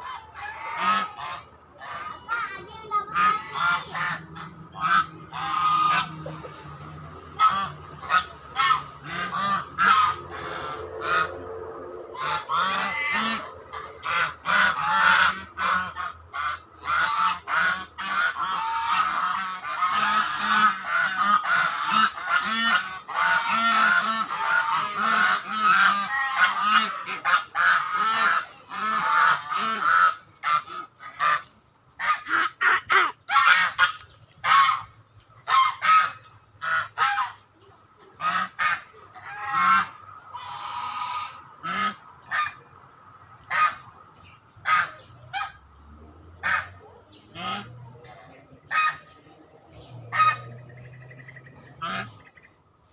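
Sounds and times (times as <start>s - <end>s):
swans honking: 0.0s - 52.9s.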